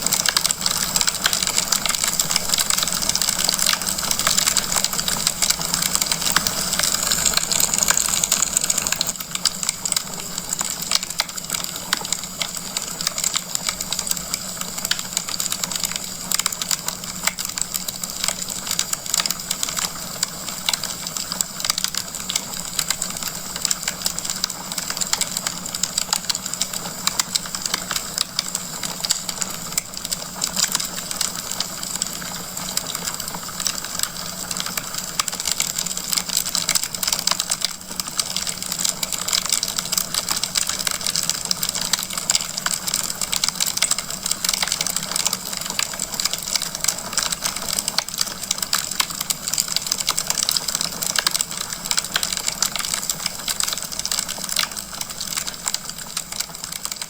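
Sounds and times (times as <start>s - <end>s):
logs crackling in fireplace: 0.0s - 57.0s.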